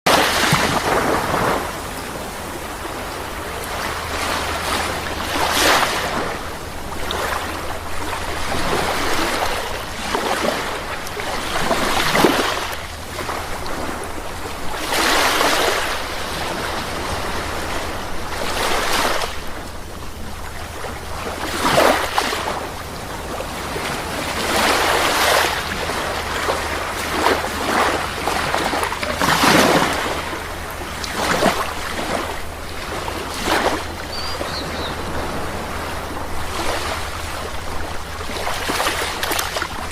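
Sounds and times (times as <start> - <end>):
sea waves washing in: 0.1 - 39.9.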